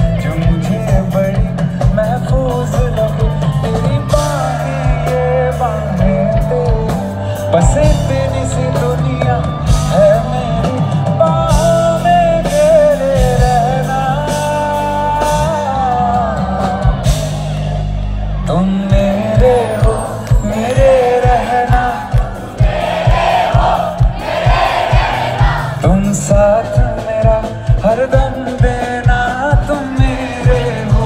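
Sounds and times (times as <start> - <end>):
man singing through amplifier: 0.0 - 17.4, 18.4 - 24.0, 25.6 - 31.0
live rock band playing: 0.0 - 31.0.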